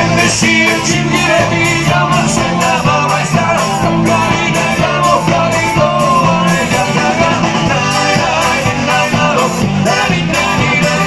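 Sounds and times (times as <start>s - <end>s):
drums: 0.0s - 11.0s
electric guitars: 0.0s - 11.0s
keyboard: 0.0s - 11.0s
person singing: 0.0s - 11.0s.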